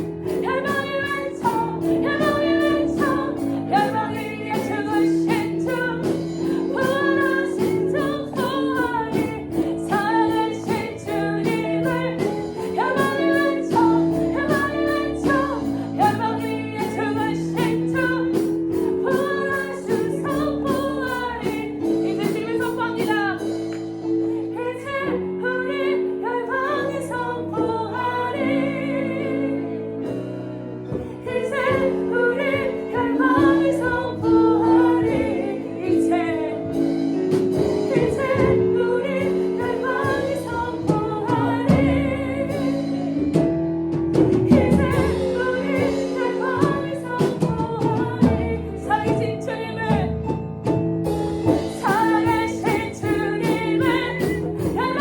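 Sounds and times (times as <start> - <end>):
voices singing together: 0.0 - 23.6, 24.3 - 30.2, 30.8 - 43.5, 44.2 - 50.1
band accompaniment: 0.0 - 25.0, 27.5 - 55.0.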